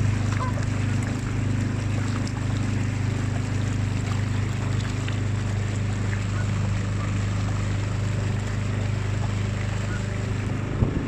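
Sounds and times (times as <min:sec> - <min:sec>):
motorboat motor running: 0:00.0 - 0:11.0.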